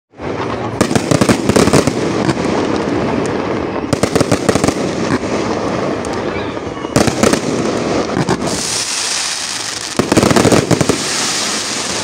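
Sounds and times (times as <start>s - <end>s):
fireworks crackling bangs: 0.1s - 12.0s.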